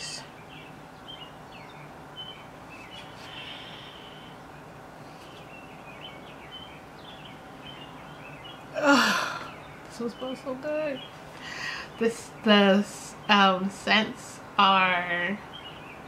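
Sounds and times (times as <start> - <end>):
faint bird chirps: 0.0 - 13.4
low steady background noise: 0.0 - 16.0.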